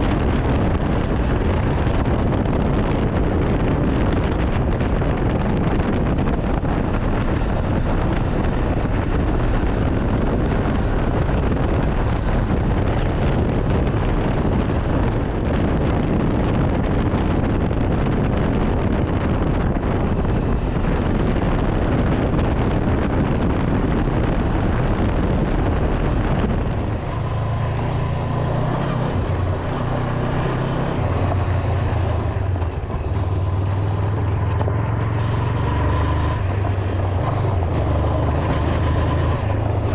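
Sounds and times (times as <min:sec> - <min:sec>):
motorcycle engine drone: 0:00.0 - 0:39.9
wind rush on microphone: 0:00.0 - 0:39.9.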